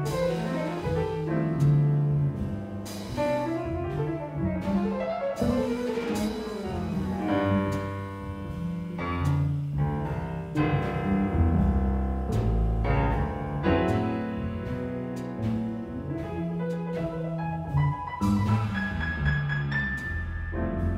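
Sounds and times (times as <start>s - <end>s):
double bass low notes: 0.0s - 20.9s
grand piano chords and runs: 0.0s - 20.9s.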